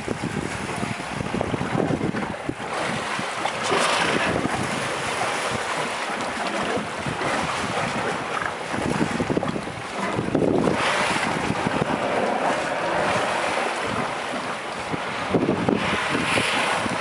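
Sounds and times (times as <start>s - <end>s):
water washing against boat: 0.0s - 17.0s
wind buffeting microphone: 0.0s - 17.0s.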